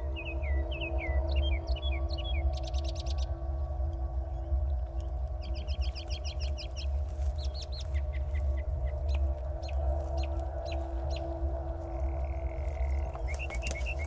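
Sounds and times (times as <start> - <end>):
bird chirps: 0.0 - 3.4, 4.2 - 14.0
low rumble: 0.0 - 14.0.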